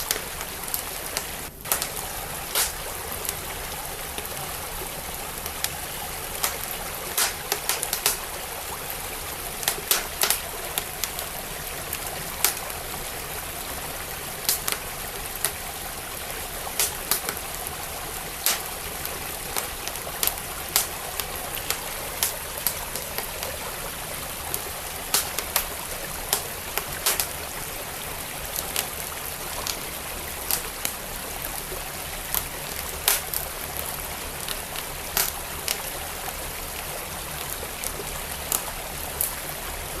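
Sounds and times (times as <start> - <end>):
stream flowing: 0.0 - 40.0
wood fire crackling: 0.0 - 40.0.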